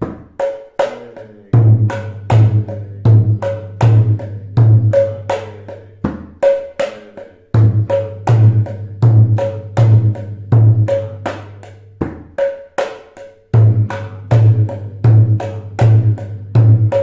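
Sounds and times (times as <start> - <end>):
two-headed drum playing: 0.0 - 17.0.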